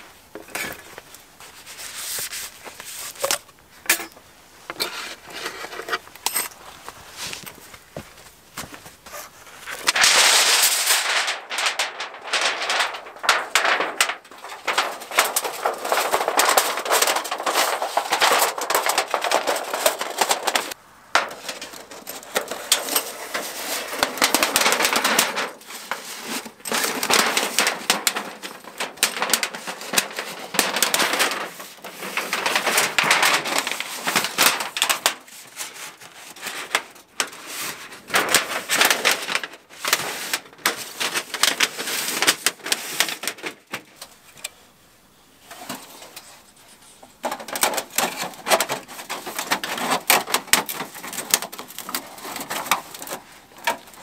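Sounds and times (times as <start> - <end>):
dry wood crackling: 0.0 - 44.6, 45.4 - 54.0.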